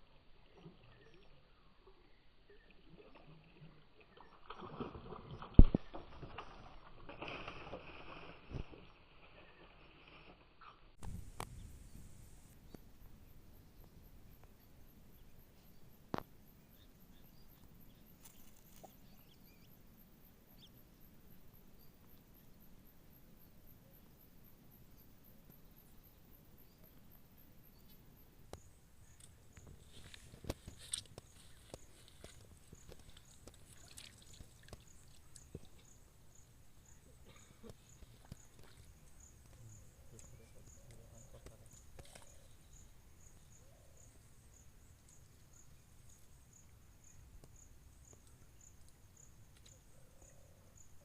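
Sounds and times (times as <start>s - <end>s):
faint outdoor ambience: 0.0s - 51.0s
faint bird chirps: 9.2s - 51.0s.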